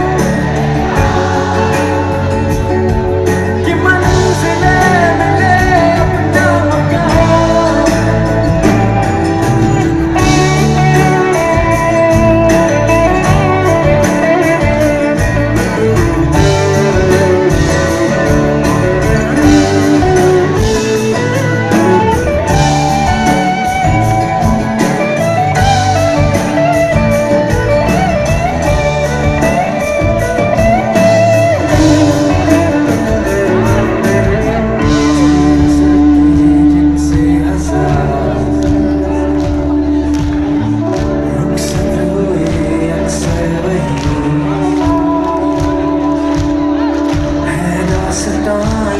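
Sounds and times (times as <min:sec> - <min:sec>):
drum beat: 0:00.0 - 0:48.9
guitar melody: 0:00.0 - 0:48.9
rock band playing: 0:00.0 - 0:48.9.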